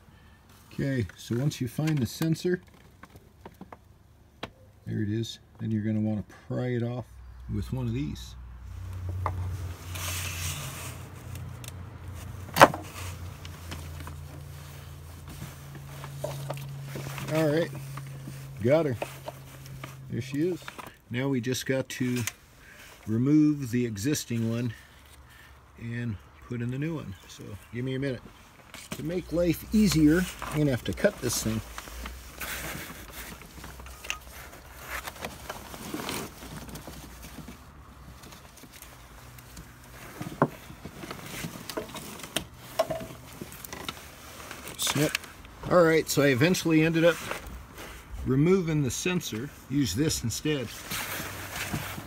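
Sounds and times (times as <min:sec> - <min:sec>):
plastic and rubber rustling: 0:00.5 - 0:04.1, 0:08.6 - 0:25.4, 0:26.5 - 0:52.0.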